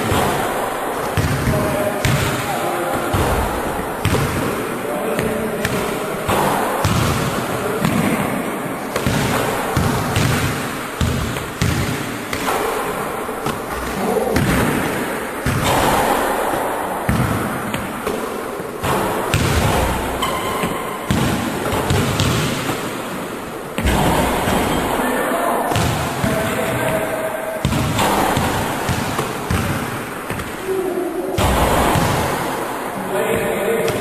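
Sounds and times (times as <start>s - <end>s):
basketballs bouncing on hardwood floor: 0.0s - 25.0s, 25.7s - 30.7s, 31.4s - 34.0s.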